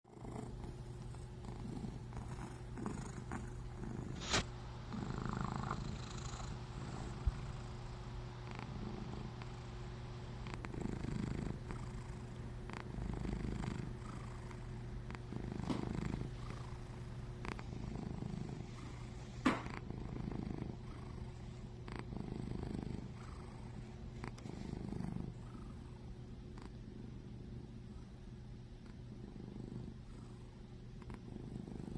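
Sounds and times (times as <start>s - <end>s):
cat purring: 0.1s - 31.9s.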